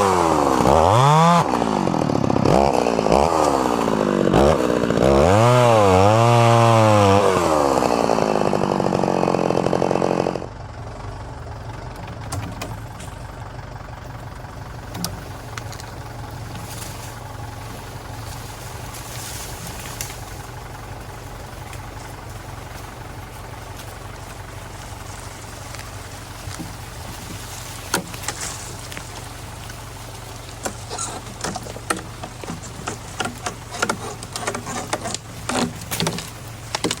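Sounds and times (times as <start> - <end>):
chainsaw cutting wood: 0.0 - 10.6, 14.5 - 23.1, 23.7 - 37.0
engine idling: 0.0 - 37.0.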